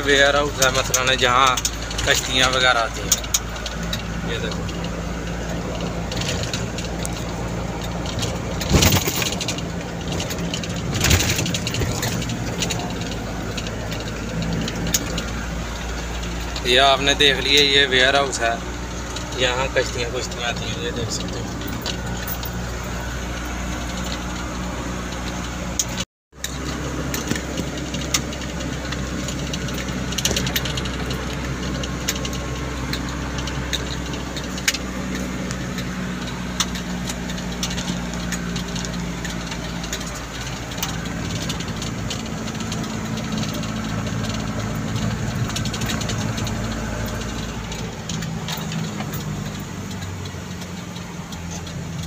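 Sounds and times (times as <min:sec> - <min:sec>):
light rattles and clicks: 0:00.0 - 0:52.0
vehicle engine running: 0:00.0 - 0:52.0.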